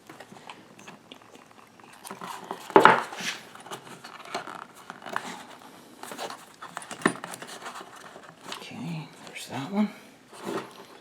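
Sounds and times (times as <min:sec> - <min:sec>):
small clicks and rustles: 0:00.0 - 0:09.4.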